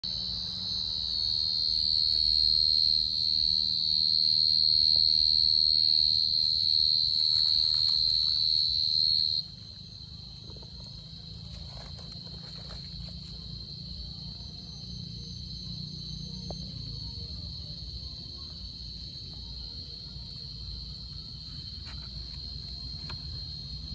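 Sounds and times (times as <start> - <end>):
cricket trilling: 0.0 - 23.9.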